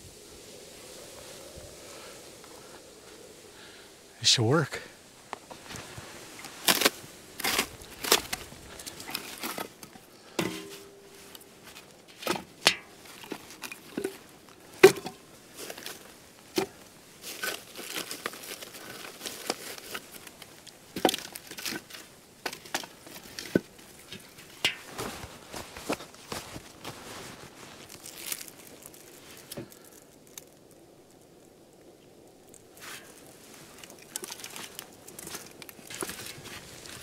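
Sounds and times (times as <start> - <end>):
campfire wood crinkling and snapping: 0.0 - 37.0.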